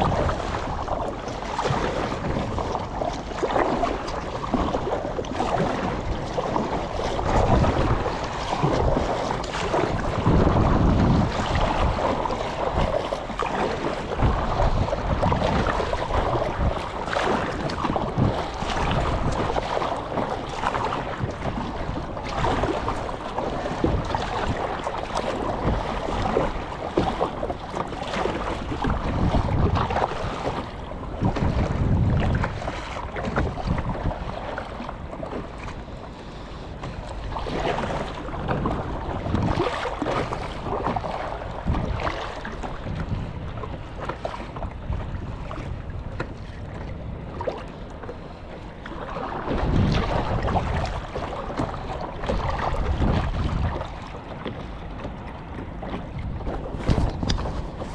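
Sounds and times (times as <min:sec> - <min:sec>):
paddle strokes: 0:00.0 - 0:57.9
water splashing against hull: 0:00.0 - 0:57.9
wind buffeting microphone: 0:00.0 - 0:57.9.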